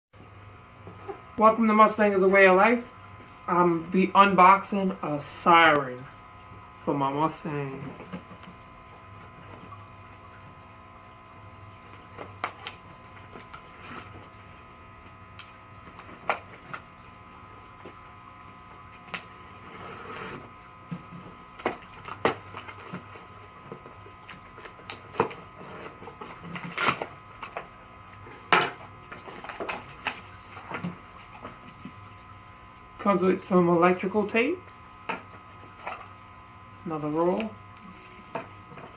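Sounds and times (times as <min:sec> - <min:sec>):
steady electrical hum: 0:00.2 - 0:38.9.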